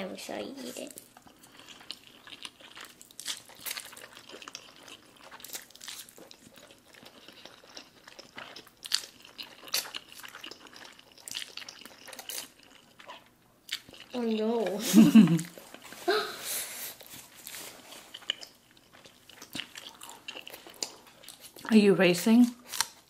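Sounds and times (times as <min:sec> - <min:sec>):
wet chewing sounds: 0:00.7 - 0:16.1, 0:16.9 - 0:21.7, 0:22.4 - 0:23.0.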